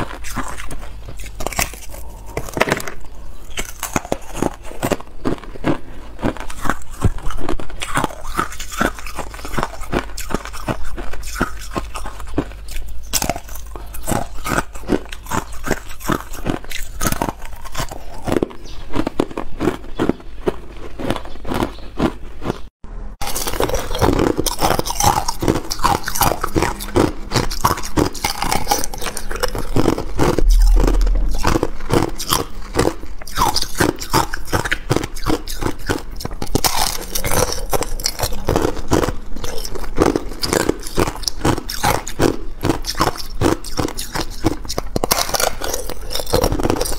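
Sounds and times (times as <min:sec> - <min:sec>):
ice being chewed and crunched: 0:00.0 - 0:46.9.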